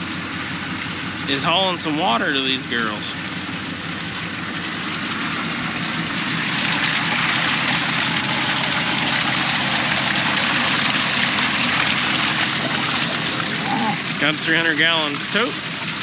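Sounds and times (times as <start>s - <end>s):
low engine hum: 0.0s - 16.0s
water gushing into plastic tank: 0.0s - 16.0s.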